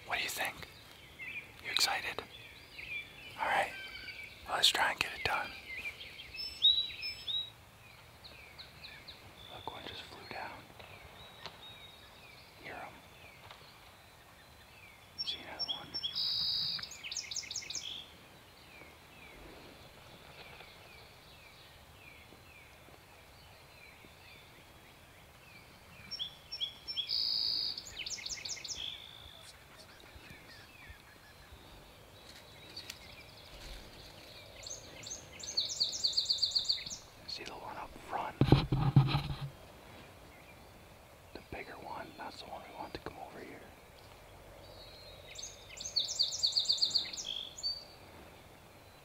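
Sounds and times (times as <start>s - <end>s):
faint repeated bird chirps: 0.0s - 18.1s, 20.2s - 39.5s, 40.2s - 48.0s.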